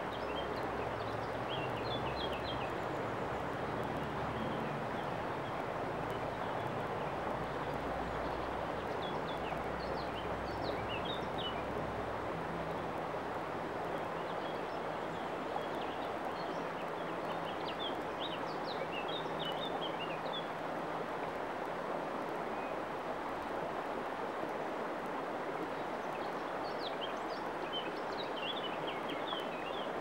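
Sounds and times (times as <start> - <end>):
river water over stones: 0.0 - 30.0.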